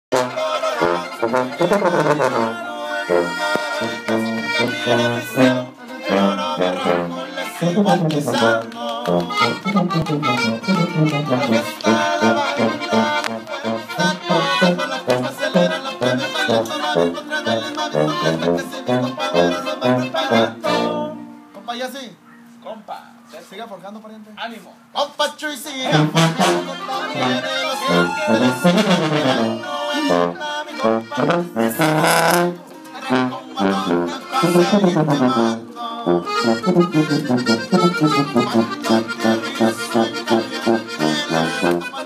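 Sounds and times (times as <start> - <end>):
accordion melody: 0.0 - 21.9, 25.8 - 42.0
sousaphone bass line: 0.1 - 8.6, 9.3 - 21.2, 25.9 - 30.4, 31.0 - 32.6, 33.7 - 41.6
acoustic guitar: 0.1 - 21.7, 25.9 - 42.0.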